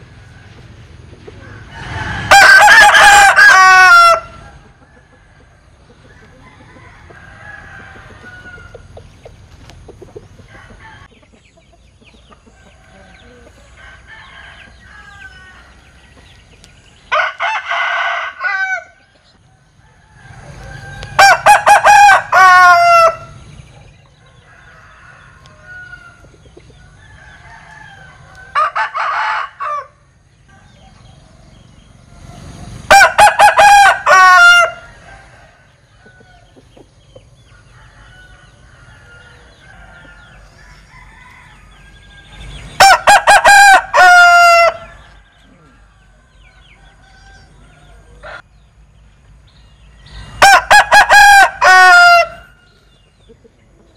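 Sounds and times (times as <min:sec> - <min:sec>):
quiet chicken calls: 0:00.0 - 0:53.9
rooster crowing: 0:01.4 - 0:08.9, 0:10.5 - 0:11.1, 0:12.6 - 0:16.3, 0:17.1 - 0:23.4, 0:24.2 - 0:31.2, 0:32.2 - 0:36.6, 0:37.4 - 0:48.6, 0:50.0 - 0:52.8.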